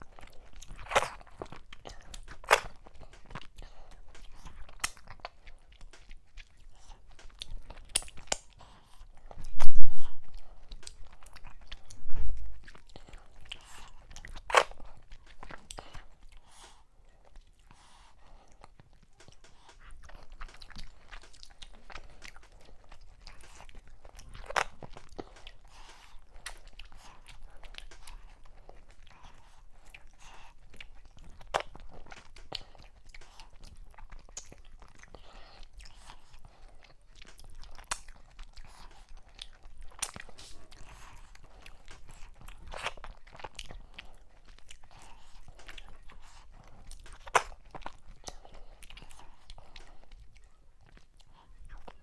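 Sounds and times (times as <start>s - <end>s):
lip smacks: 0.0s - 52.0s
wet chewing and crunching: 0.0s - 52.0s.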